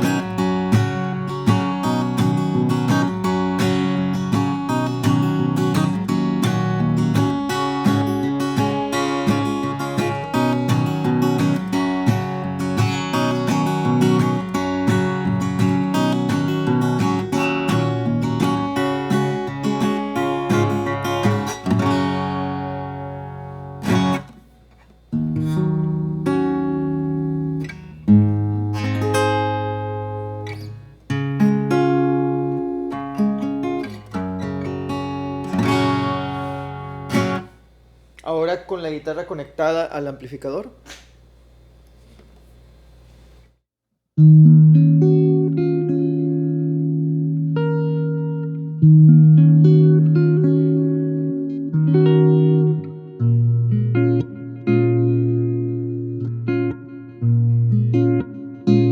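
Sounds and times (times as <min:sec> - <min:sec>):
acoustic guitar plucked notes: 0:00.0 - 0:37.8, 0:44.2 - 0:58.9
guitar chords ringing: 0:00.0 - 0:37.8, 0:44.2 - 0:58.9.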